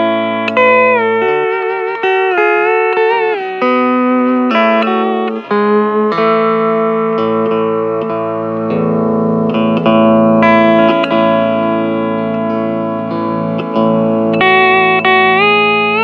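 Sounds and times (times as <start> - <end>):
steel guitar slow melody: 0.0 - 16.0.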